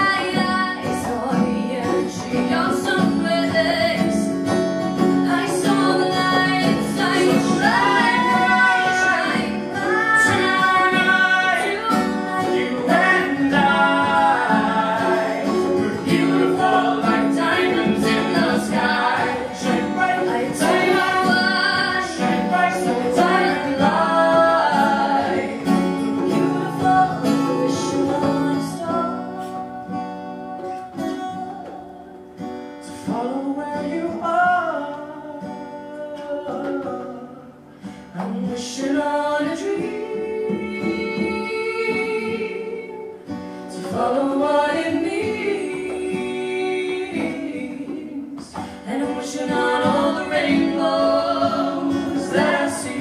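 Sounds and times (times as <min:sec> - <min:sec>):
acoustic guitar: 0:00.0 - 0:53.0
woman singing: 0:00.0 - 0:53.0.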